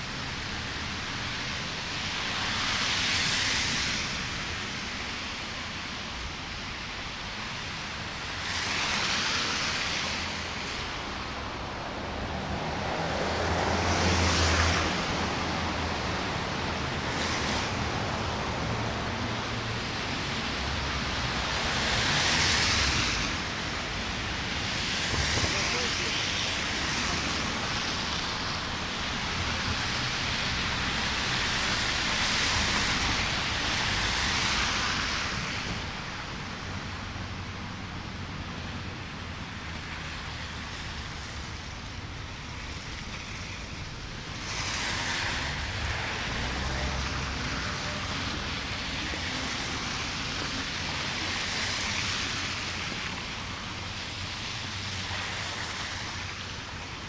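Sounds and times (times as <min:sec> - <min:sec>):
traffic on slushy street: 0:00.0 - 0:57.0.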